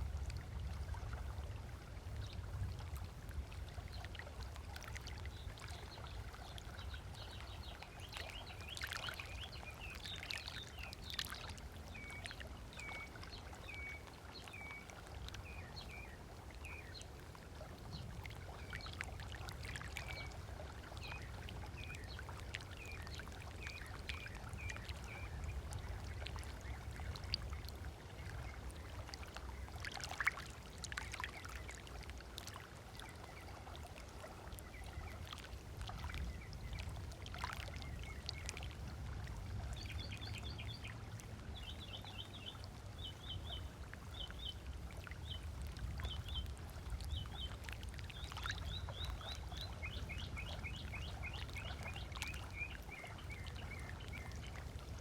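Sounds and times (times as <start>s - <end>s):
small waves lapping: 0.0s - 55.0s.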